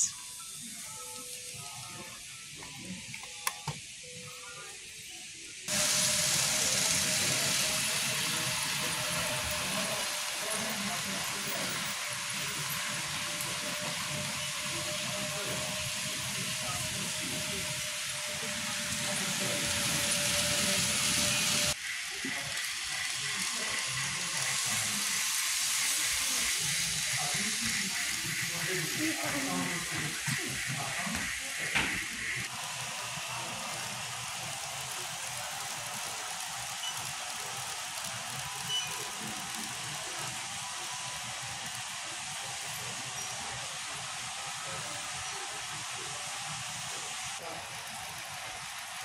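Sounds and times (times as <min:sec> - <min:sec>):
steady hiss: 0:03.7 - 0:49.0.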